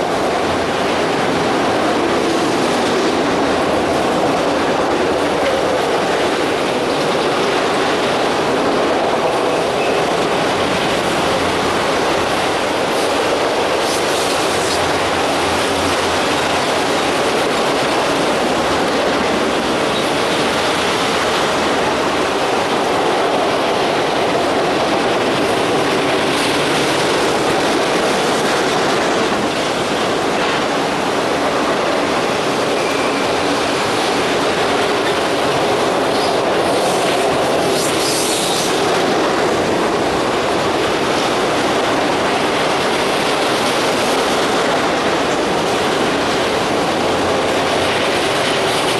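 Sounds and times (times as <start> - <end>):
steel wheels rolling on rail: 0.0 - 48.9.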